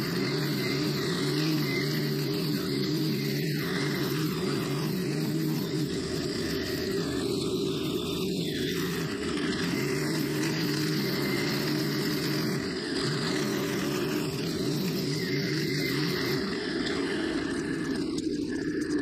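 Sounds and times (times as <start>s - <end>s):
string trimmer engine running: 0.0s - 19.0s
trimmer line cutting grass: 0.0s - 19.0s.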